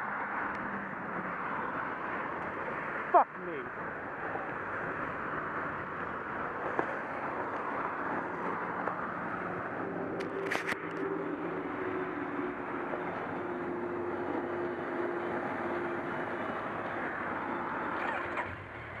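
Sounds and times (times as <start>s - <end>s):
highway traffic rushing past: 0.0s - 19.0s.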